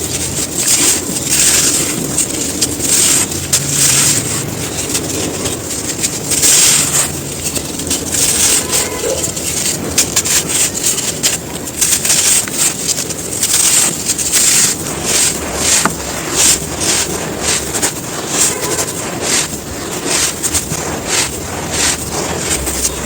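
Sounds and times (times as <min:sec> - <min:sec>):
dry sand clumps crumbling: 0:00.0 - 0:23.0.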